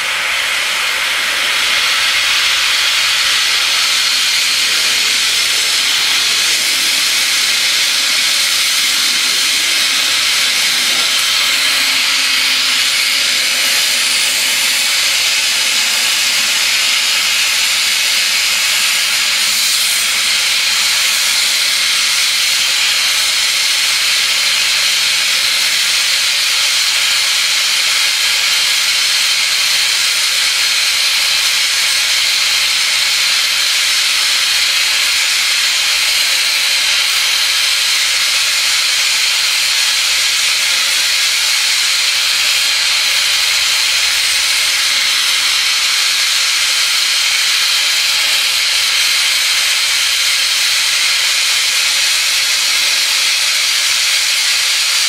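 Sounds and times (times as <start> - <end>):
torch flame hissing: 0.0 - 55.0.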